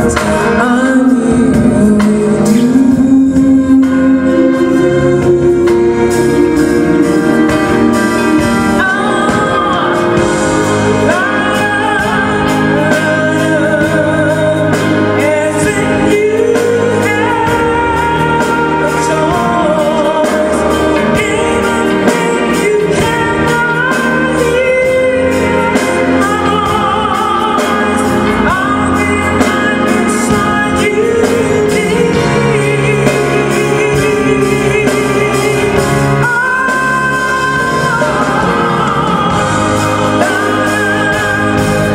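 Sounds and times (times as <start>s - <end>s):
live band playing: 0.0s - 41.9s
steady drum beat: 0.0s - 41.9s.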